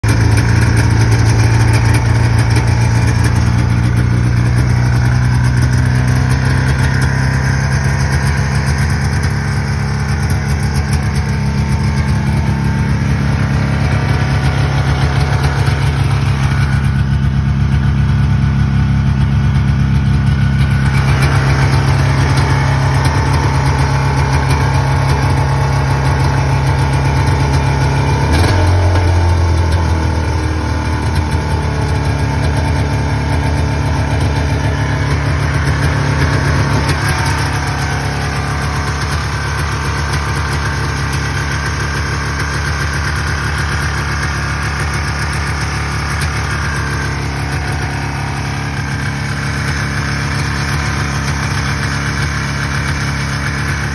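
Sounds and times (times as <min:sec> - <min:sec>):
snowmobile engine idling: 0:00.0 - 0:53.9.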